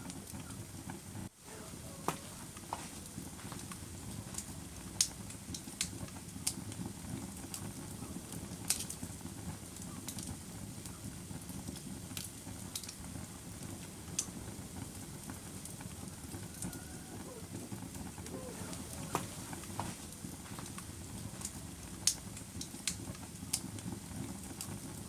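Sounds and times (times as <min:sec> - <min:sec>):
fire crackling and popping: 0:00.0 - 0:25.0
wood fire rumbling: 0:00.0 - 0:25.0.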